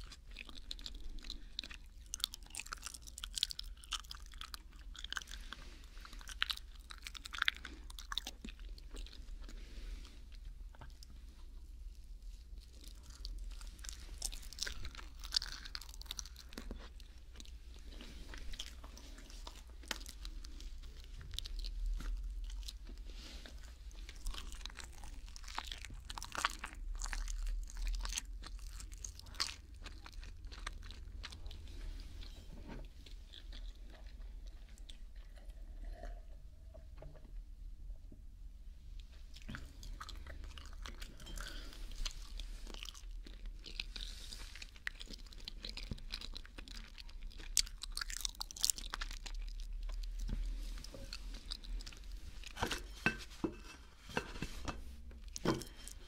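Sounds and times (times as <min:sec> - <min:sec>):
crunchy chewing: 0:00.0 - 0:11.7, 0:12.4 - 0:36.3, 0:39.3 - 0:53.0.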